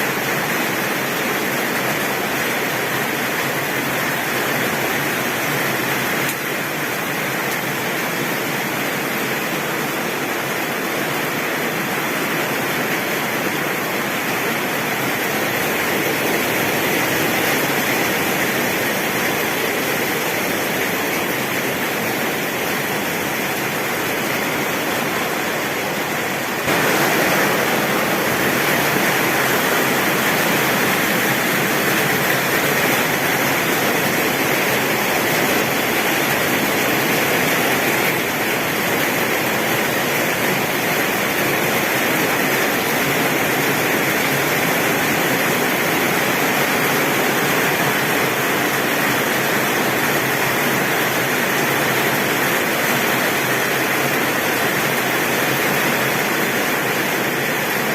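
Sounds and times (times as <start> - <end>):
heavy rain on a tin roof: 0.0 - 57.9.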